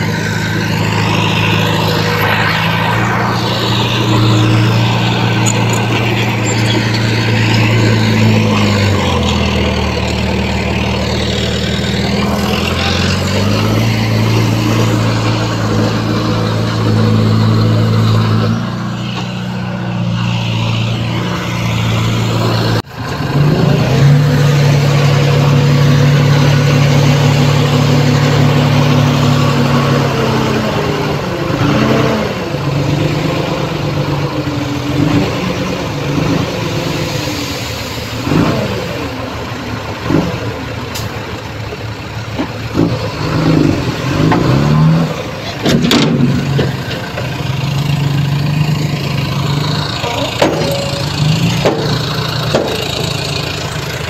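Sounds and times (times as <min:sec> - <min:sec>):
heavy diesel engines revving: 0:00.0 - 0:54.0.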